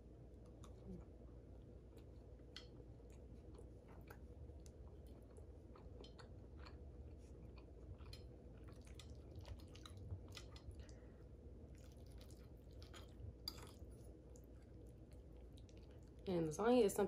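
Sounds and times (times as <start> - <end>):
person chewing food: 0.2 - 16.2.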